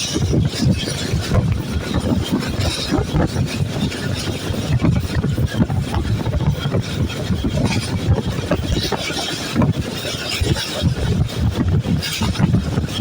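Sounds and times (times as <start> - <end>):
train clatter: 0.0 - 13.0
train wheels rumbling on rails: 0.0 - 13.0.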